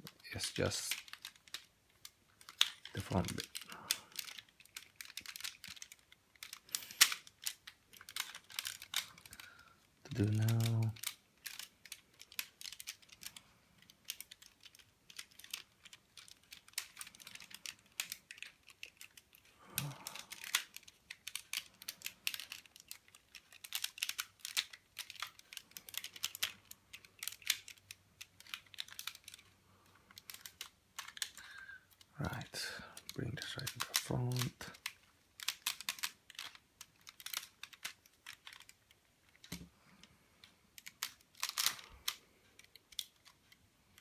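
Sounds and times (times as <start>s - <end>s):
plastic toy parts clicking: 0.0s - 44.0s.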